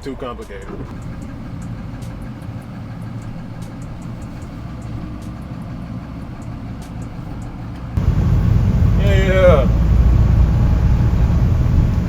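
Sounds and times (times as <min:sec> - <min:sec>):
diesel engine idling: 0:00.2 - 0:12.0.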